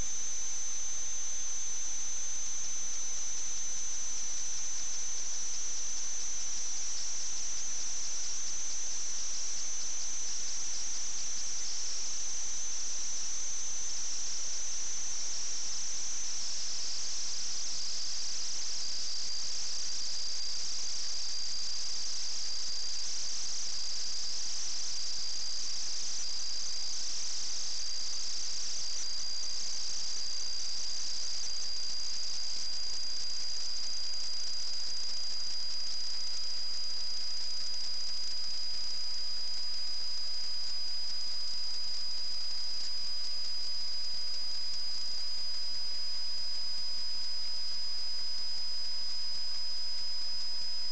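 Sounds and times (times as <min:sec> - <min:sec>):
high-pitched electronic whine: 0:00.0 - 0:50.9.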